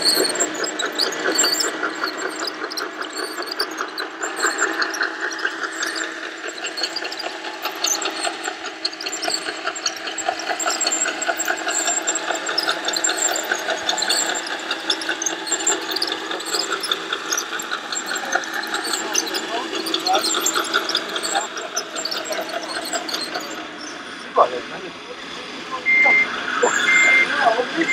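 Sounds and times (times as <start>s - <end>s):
tracks clattering over concrete: 0.0s - 23.9s
model drive motors whining: 0.0s - 27.9s.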